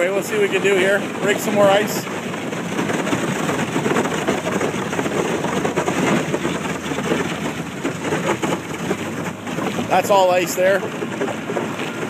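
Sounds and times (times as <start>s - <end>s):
ice crackling against boat hull: 0.0s - 12.0s
outboard motor running: 0.0s - 12.0s.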